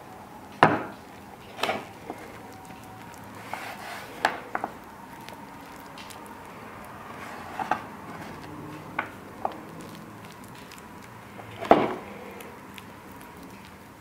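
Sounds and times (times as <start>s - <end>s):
hands kneading dough on board: 0.6s - 14.0s.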